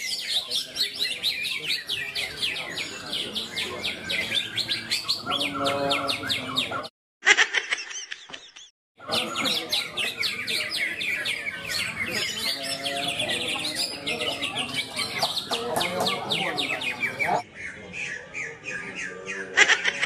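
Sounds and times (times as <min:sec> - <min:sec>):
songbirds chirping and whistling: 0:00.0 - 0:06.9, 0:07.9 - 0:20.0.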